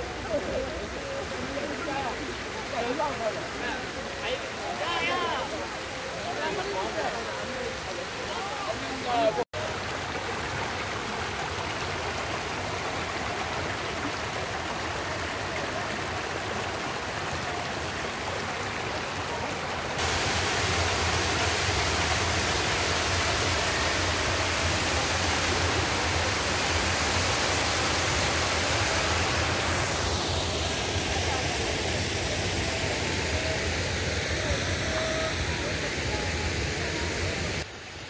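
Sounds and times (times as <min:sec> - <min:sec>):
water rushing over stones: 0:00.0 - 0:38.0
waterfall rushing: 0:00.0 - 0:38.0.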